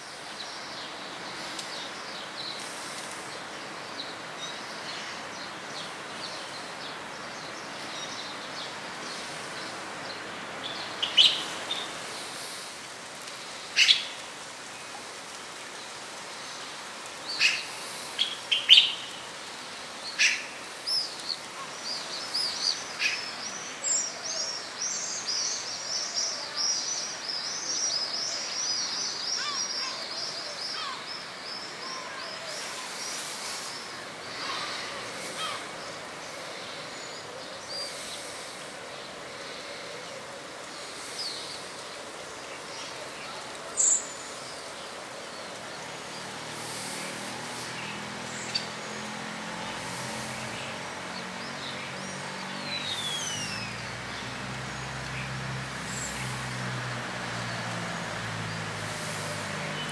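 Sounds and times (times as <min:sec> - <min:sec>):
steady background hiss: 0:00.0 - 0:59.9
birds chirping: 0:00.3 - 0:12.8, 0:15.8 - 0:56.6, 0:57.4 - 0:59.9.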